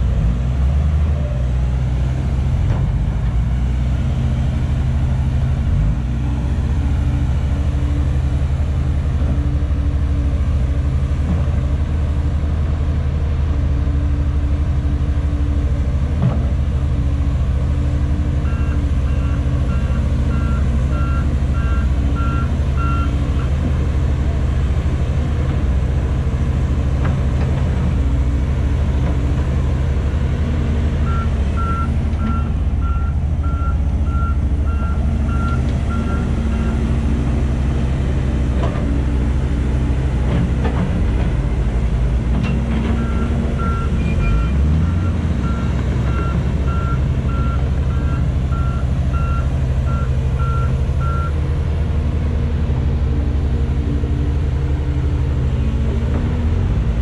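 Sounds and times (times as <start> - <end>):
diesel engines of heavy machinery: 0.0 - 57.0.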